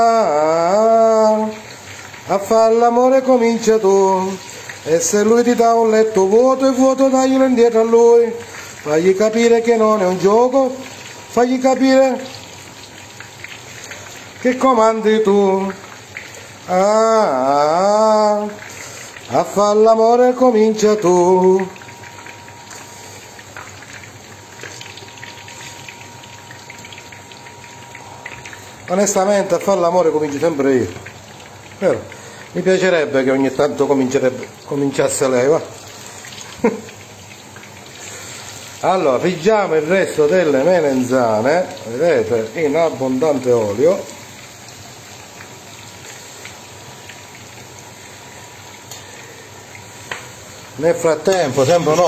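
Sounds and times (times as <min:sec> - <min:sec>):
vegetables sizzling in hot oil: 0:00.0 - 0:52.0.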